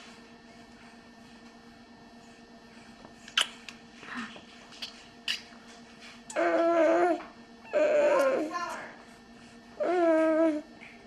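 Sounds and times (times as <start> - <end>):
infant whining hum: 2.1 - 11.0.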